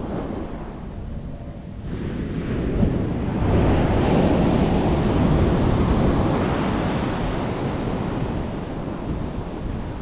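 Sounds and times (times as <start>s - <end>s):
wind rumble on microphone: 0.0s - 10.0s
ocean surf breaking on sand: 1.8s - 10.0s.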